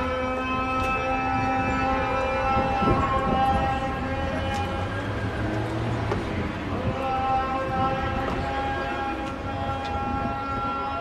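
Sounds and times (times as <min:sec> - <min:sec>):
man chanting over loudspeaker: 0:00.0 - 0:11.0.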